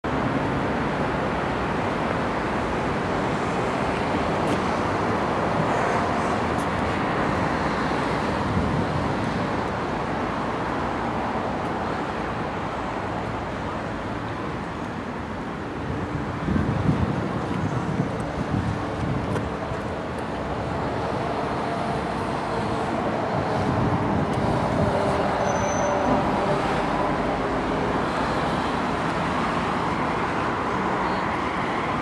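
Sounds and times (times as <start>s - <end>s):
road traffic hum: 0.0s - 32.0s.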